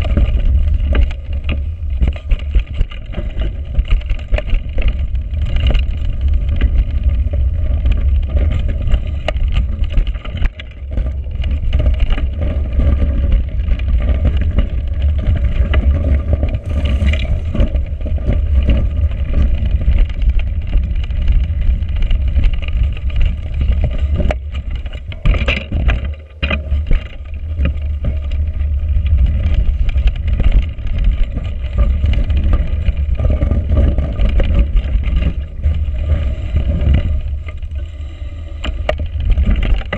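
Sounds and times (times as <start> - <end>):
bike knocks and rattles: 0.0 - 38.0
bike tyres rolling on rough trail: 0.0 - 39.9
wind rumble on microphone: 0.0 - 39.9.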